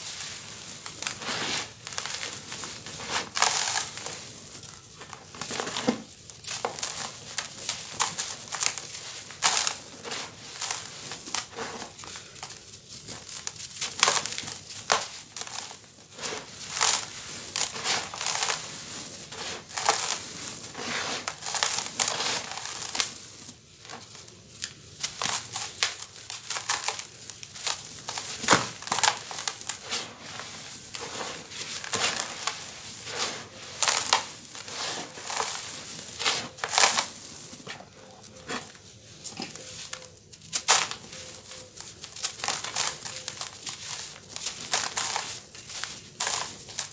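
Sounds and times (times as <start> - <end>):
hands crushing dry sand lumps: 0.0 - 46.9.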